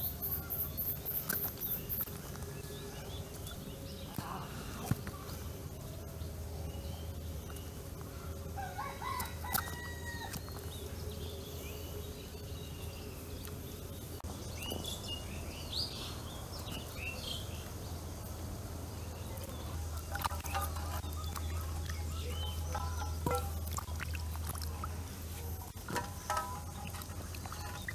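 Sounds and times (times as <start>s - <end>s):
birds calling: 0.0s - 27.9s
low hum: 0.4s - 8.8s, 9.4s - 27.9s.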